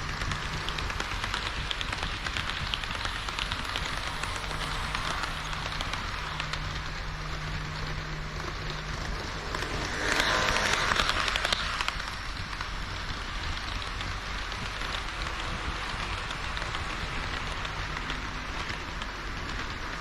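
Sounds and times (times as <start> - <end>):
model train wheels rattling on rail: 0.0 - 20.0.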